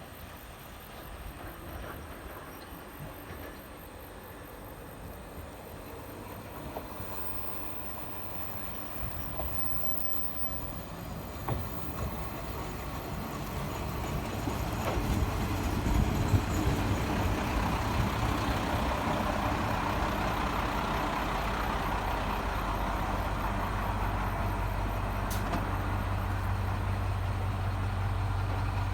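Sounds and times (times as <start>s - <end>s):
diesel railcar arriving: 0.0s - 28.9s
diesel engine idling: 4.6s - 28.9s.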